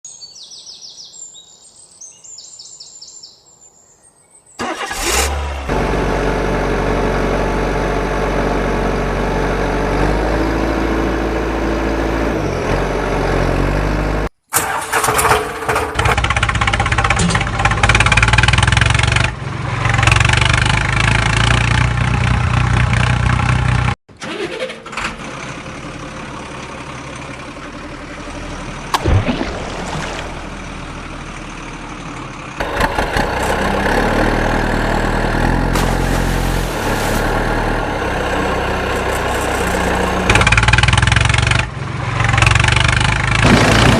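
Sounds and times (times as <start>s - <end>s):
tractor engine running: 4.6s - 43.9s.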